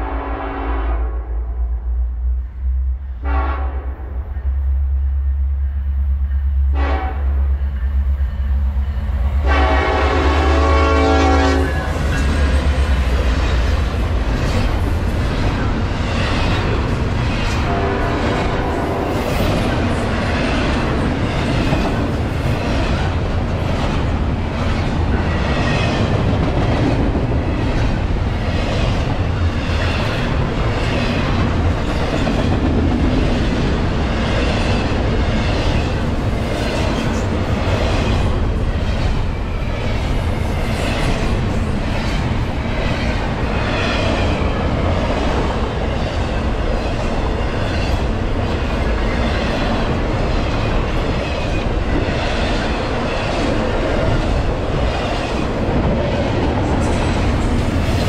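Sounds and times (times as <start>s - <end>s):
train wheels clattering on rails: 5.6s - 58.0s.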